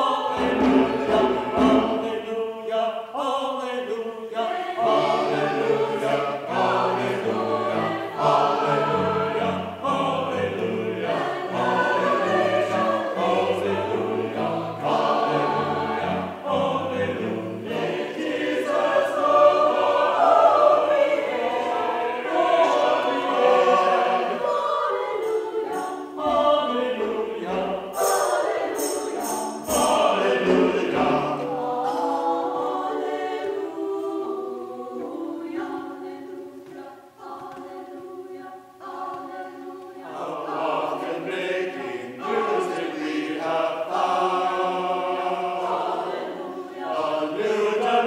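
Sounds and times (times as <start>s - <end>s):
choir singing a hymn: 0.0s - 48.0s.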